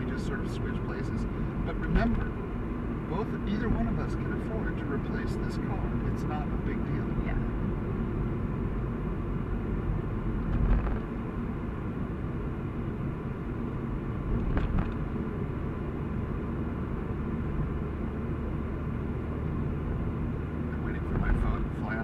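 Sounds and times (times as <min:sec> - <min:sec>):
road and engine rumble in car: 0:00.0 - 0:22.0.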